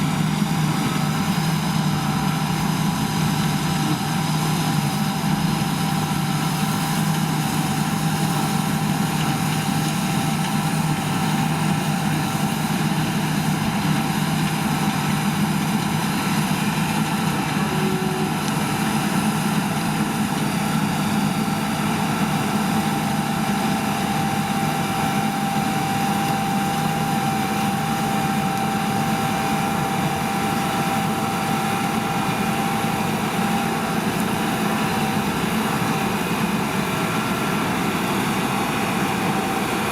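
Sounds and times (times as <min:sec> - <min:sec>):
heavy machinery engine drone: 0:00.0 - 0:39.9
thin steady whine: 0:00.0 - 0:39.9.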